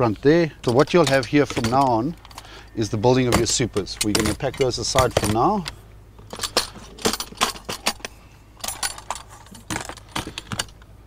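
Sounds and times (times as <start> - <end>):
plastic parts clattering: 0.6 - 2.4, 3.2 - 10.8.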